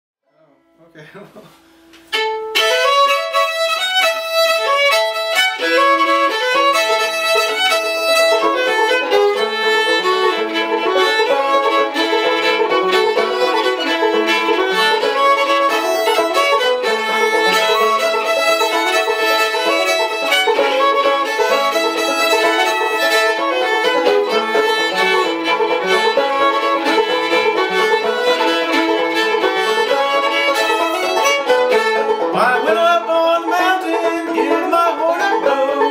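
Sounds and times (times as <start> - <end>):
bowed fiddle melody: 1.9 - 35.9
banjo picking: 2.0 - 35.9.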